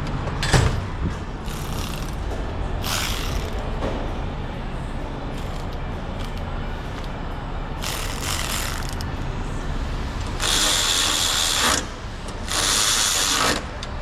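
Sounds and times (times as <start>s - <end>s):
low shop hum: 0.0s - 14.0s.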